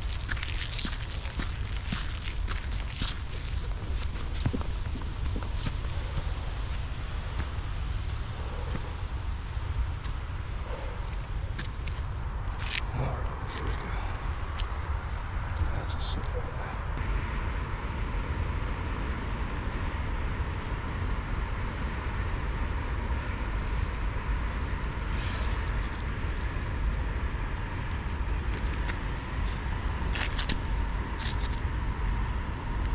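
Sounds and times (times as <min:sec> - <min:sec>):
outdoor rumble and hiss: 0:00.0 - 0:32.9.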